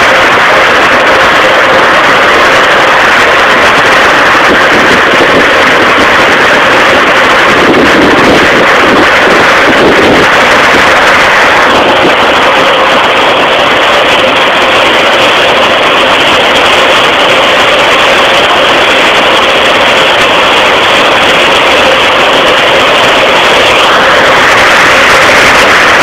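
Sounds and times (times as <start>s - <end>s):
car wash brushes and water spray: 0.0s - 26.0s.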